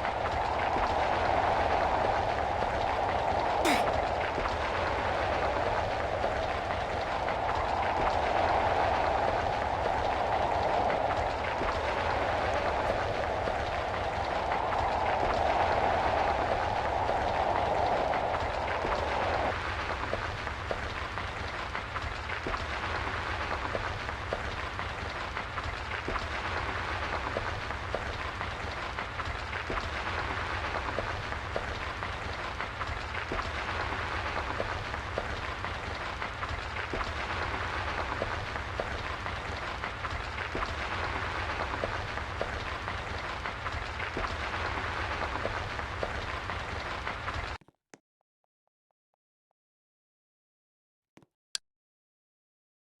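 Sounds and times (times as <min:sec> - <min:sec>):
rain pattering: 0:00.0 - 0:47.6.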